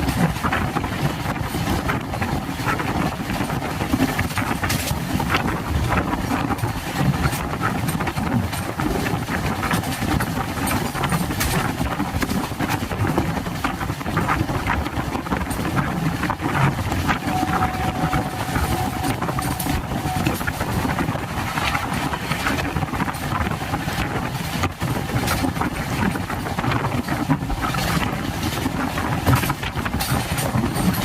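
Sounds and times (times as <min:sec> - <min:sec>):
train rumble: 0:00.0 - 0:31.0
wheels clicking and knocking: 0:00.0 - 0:31.0.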